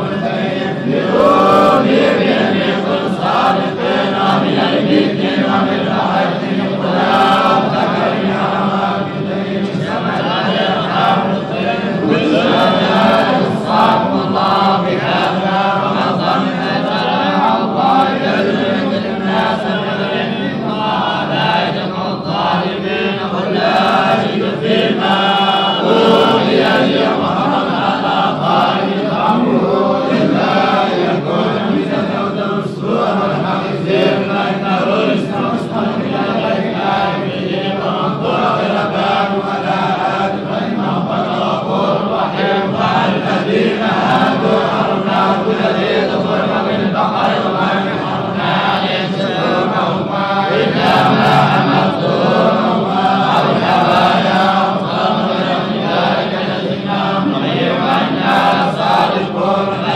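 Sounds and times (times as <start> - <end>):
person chanting recitation: 0.0 - 59.9.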